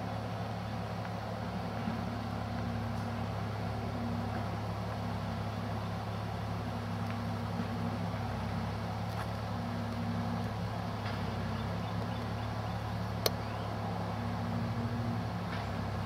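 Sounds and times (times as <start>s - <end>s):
machinery engine droning: 0.0s - 16.0s.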